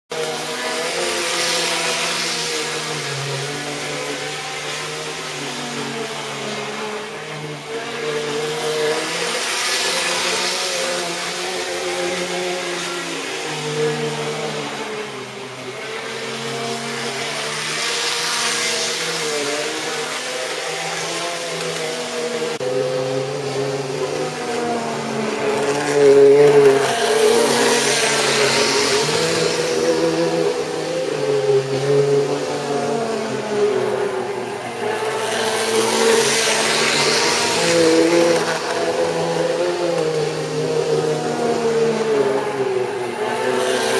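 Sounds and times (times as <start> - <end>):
model train electric hum: 0.1 - 43.9
wheels rolling on track: 0.1 - 43.9.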